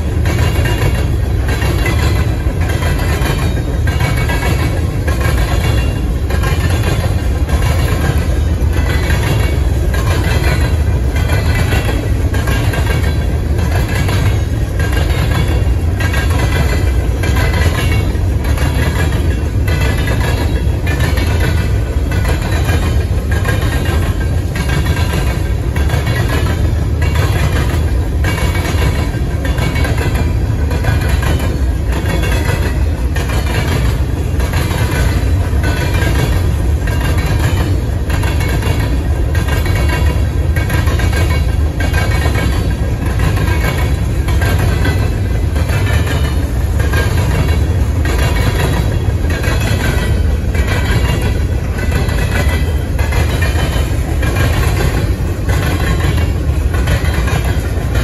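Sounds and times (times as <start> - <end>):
freight train wheels rumbling: 0.0 - 58.0
wheels clacking over rail joints: 0.0 - 58.0.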